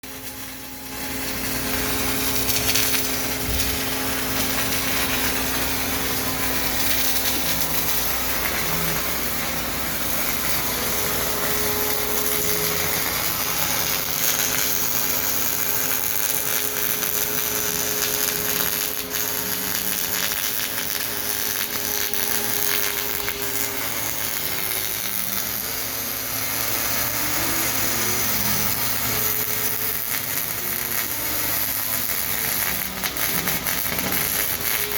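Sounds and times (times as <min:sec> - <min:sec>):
welding arc crackling buzz: 0:00.0 - 0:34.9
machine hum: 0:00.1 - 0:34.9.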